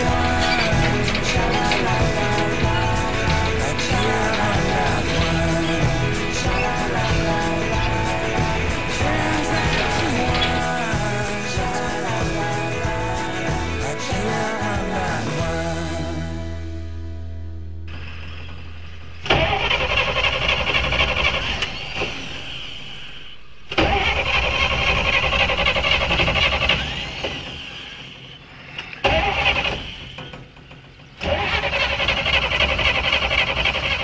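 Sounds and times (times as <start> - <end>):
truck starter cranking engine: 0.0 - 16.3, 17.9 - 34.0.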